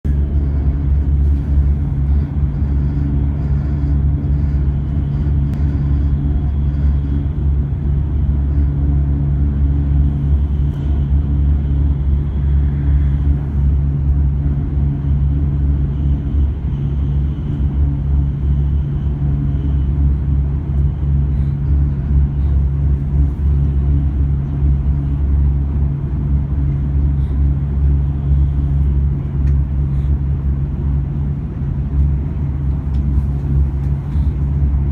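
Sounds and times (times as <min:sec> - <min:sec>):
train running drone: 0:00.0 - 0:34.9.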